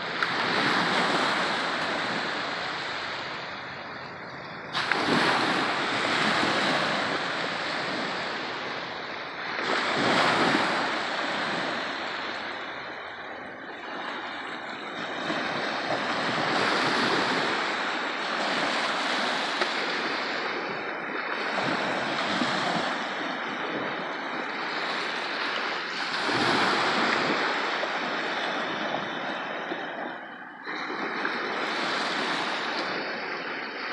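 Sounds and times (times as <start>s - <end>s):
small waves washing on beach: 0.0s - 33.9s.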